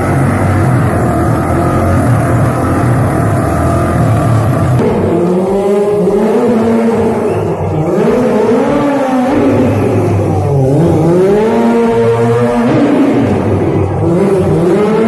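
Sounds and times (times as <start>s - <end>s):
motorcycle engine revving: 0.0s - 15.0s
quad bike engine running: 0.0s - 15.0s.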